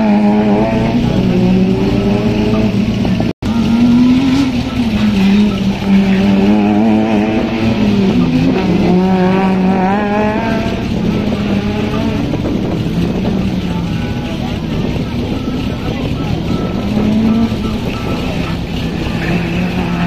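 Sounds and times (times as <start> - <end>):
car engine at high revs: 0.0 - 20.0.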